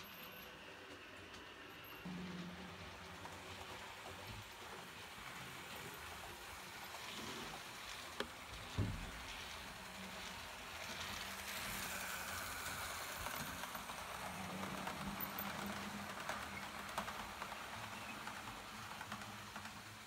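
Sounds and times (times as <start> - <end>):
wheels rattling over rails: 0.0 - 20.0.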